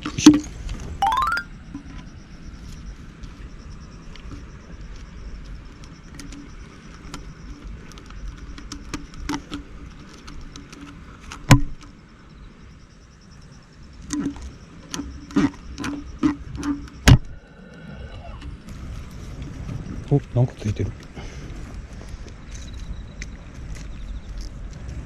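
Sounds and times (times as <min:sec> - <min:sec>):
low rumble of wind or water: 0:02.1 - 0:25.0.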